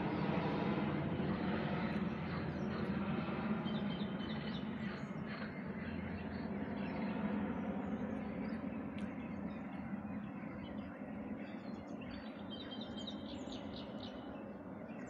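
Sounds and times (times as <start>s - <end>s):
distant helicopter drone: 0.0s - 15.0s.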